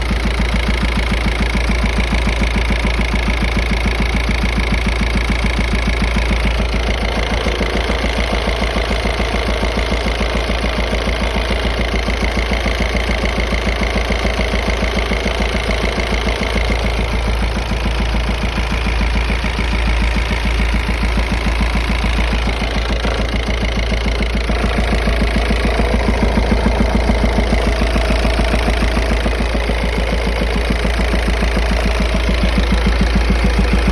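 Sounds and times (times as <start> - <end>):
diesel engine idling: 0.0 - 33.9
rhythmic turbocharger knock: 0.0 - 33.9.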